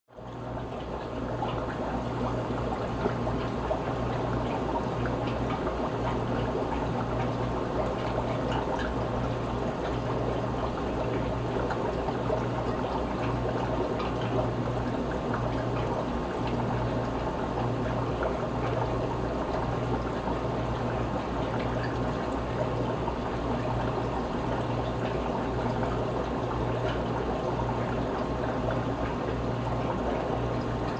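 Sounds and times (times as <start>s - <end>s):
aquarium air bubbling: 0.1s - 30.9s.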